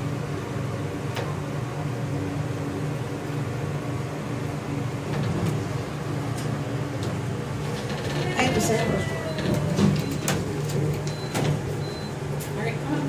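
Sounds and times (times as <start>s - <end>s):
ventilation fan humming: 0.0s - 13.0s.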